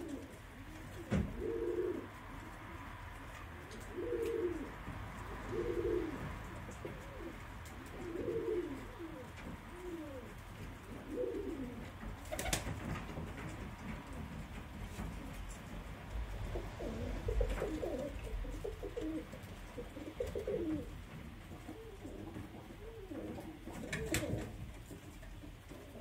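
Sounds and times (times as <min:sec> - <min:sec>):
pigeon cooing: 0:00.0 - 0:12.8, 0:13.9 - 0:26.0.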